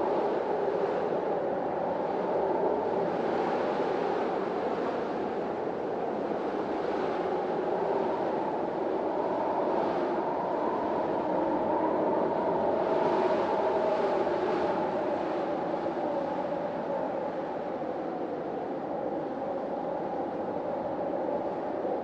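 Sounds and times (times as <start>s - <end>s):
storm wind blowing: 0.0s - 22.0s.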